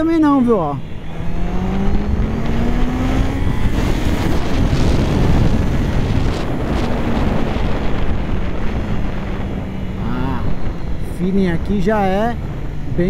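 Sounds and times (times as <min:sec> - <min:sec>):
wind rushing on microphone: 0:00.0 - 0:13.0
motorcycle engine revving: 0:00.8 - 0:13.0.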